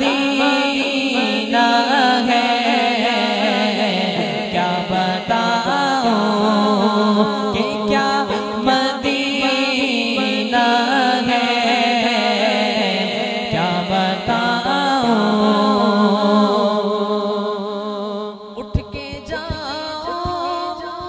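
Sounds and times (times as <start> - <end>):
low vocal drone: 0.0 - 21.0
man singing ornamented melody: 0.0 - 21.0.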